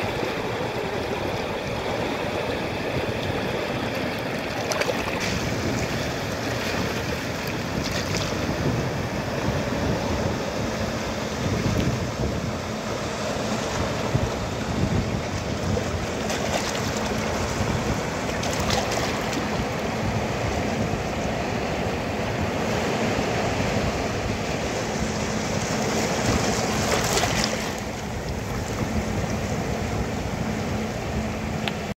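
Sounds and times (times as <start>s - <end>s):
surf washing over rocks: 0.0s - 31.9s.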